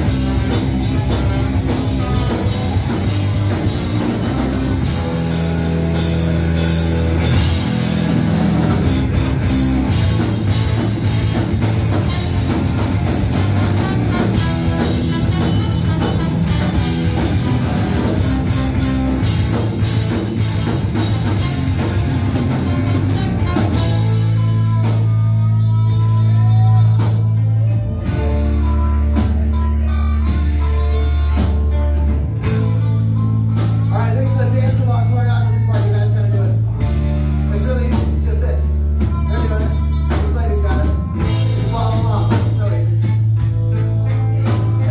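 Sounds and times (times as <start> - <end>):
drum kit: 0.0 - 44.9
guitar: 0.0 - 44.9
rock band playing live: 0.0 - 44.9.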